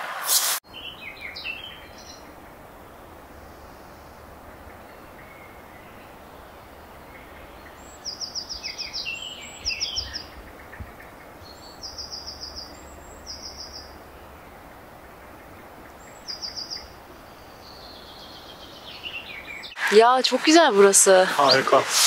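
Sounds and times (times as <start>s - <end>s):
steady background noise: 0.0s - 22.0s
songbird singing: 0.6s - 21.9s.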